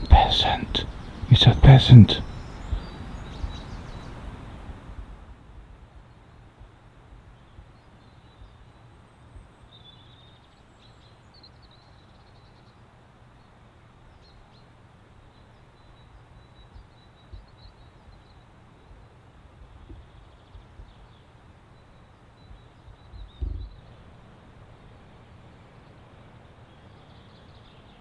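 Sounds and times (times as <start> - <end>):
small birds chirping: 0.0 - 5.0, 6.0 - 28.0
low hiss and rumble: 0.0 - 28.0.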